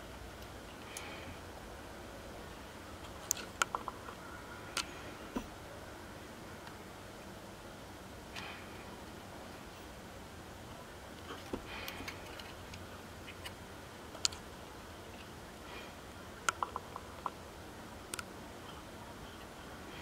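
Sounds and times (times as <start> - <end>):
room hiss: 0.0 - 20.0.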